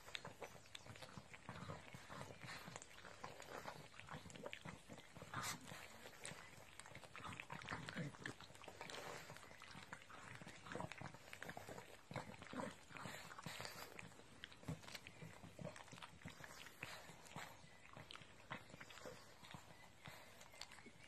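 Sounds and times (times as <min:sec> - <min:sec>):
dogs licking wet smacking: 0:00.0 - 0:21.0.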